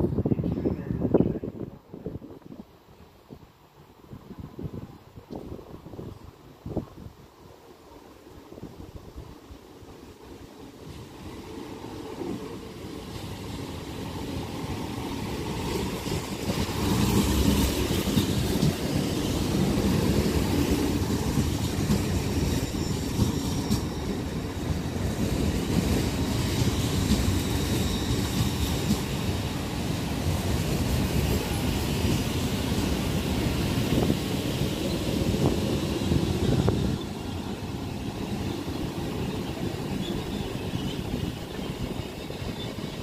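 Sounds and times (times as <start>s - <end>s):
train wheels rumbling on rail: 3.8s - 43.0s.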